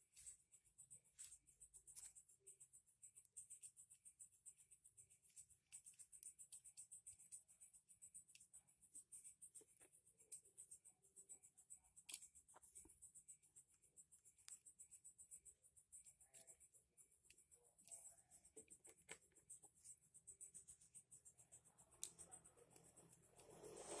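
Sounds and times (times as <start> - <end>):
small screwdriver scratching and ticking: 0.0 - 24.0.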